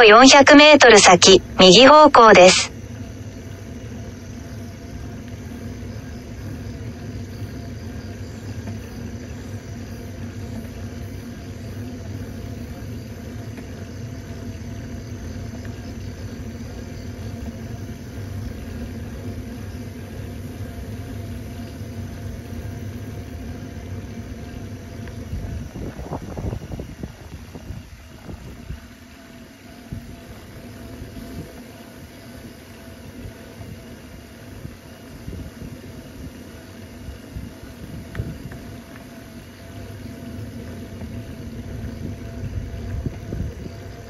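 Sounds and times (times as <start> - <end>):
small vehicle driving on road: 2.7 - 44.0.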